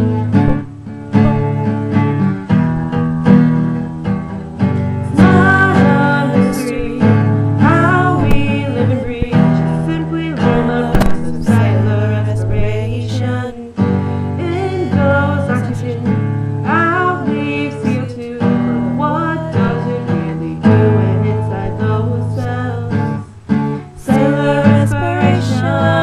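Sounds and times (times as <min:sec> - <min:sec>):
acoustic guitar strumming chords: 0:00.0 - 0:26.0
young woman singing: 0:04.8 - 0:26.0.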